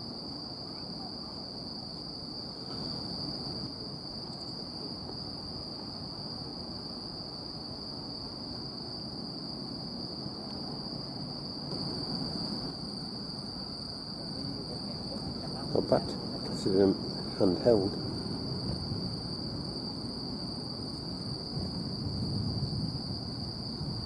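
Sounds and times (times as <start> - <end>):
crickets singing: 0.0 - 24.0.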